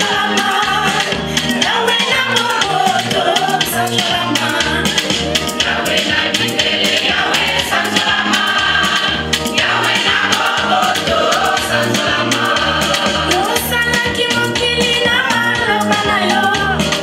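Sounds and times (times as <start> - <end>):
amplified band music: 0.0 - 17.0
repeating bass line: 0.0 - 17.0
women singing together: 0.0 - 17.0.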